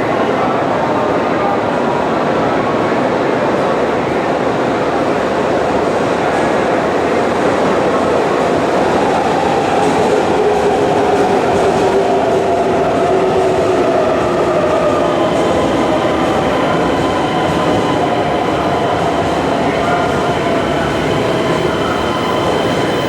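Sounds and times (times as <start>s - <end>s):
train wheels rumbling on track: 2.8s - 23.0s.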